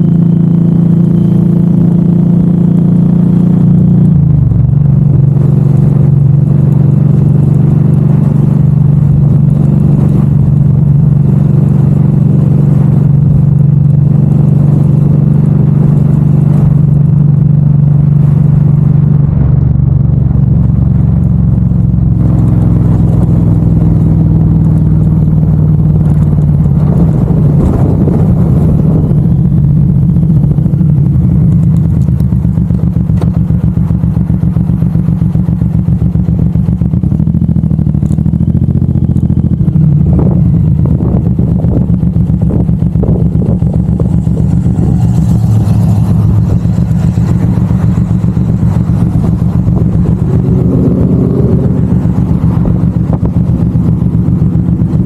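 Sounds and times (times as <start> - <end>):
v-twin motorcycle engine drone: 0.0 - 55.0.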